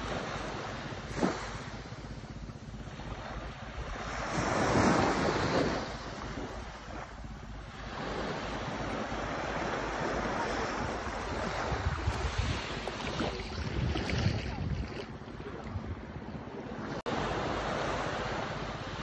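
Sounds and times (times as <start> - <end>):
waves washing on sandy beach: 0.0 - 19.0
wind buffeting microphone: 1.0 - 17.0.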